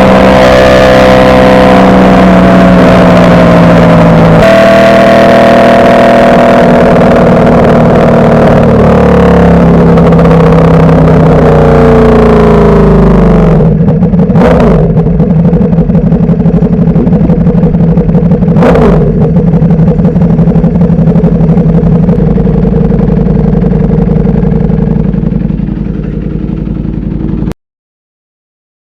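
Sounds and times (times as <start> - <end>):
motorcycle engine winding down: 0.0 - 27.6.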